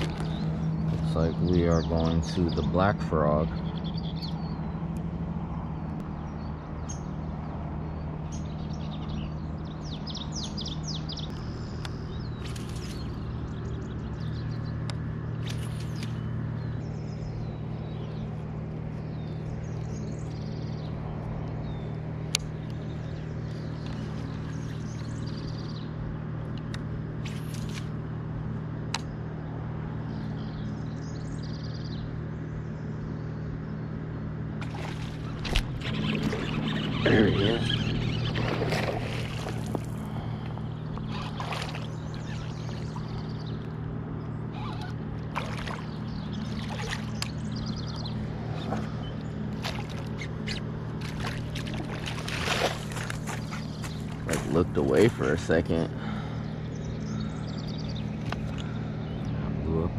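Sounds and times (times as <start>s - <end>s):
small birds chirping and trilling: 0.0s - 59.9s
steady low hum: 0.0s - 59.9s.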